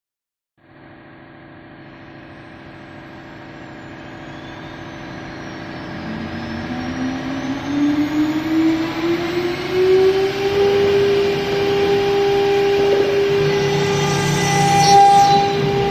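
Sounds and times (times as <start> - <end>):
cnc router machine hum: 1.6 - 15.9
high gliding whine: 1.8 - 15.9
low rising tone: 3.1 - 15.9.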